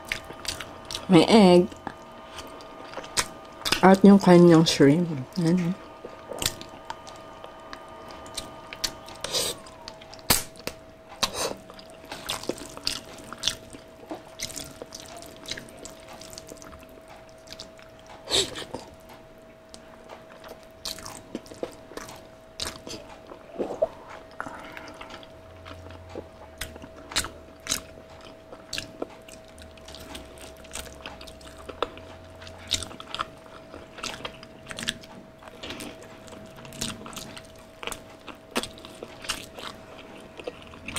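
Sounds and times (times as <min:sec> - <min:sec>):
faint steady hum: 0:00.0 - 0:40.9
chewing and mouth smacks: 0:06.0 - 0:40.9.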